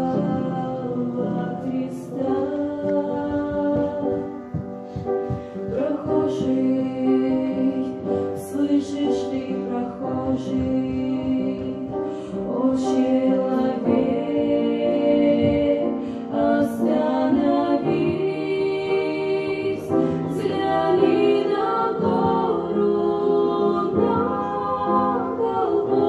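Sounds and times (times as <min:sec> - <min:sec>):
instrumental accompaniment: 0:00.0 - 0:26.0
voices singing long notes: 0:00.0 - 0:26.0.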